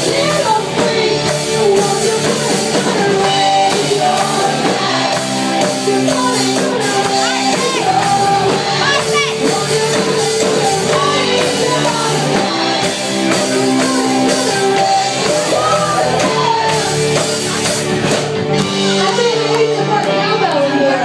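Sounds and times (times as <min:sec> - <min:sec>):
person singing: 0:00.0 - 0:17.9
drum kit: 0:00.0 - 0:21.0
electric guitar: 0:00.0 - 0:21.0.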